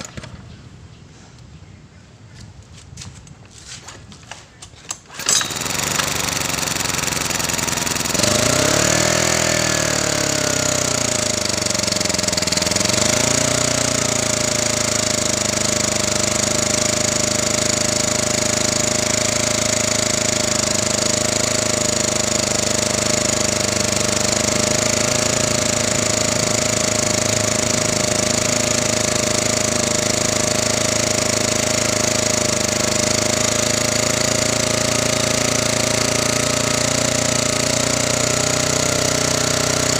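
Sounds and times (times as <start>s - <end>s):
portable generator engine running: 4.9s - 39.9s.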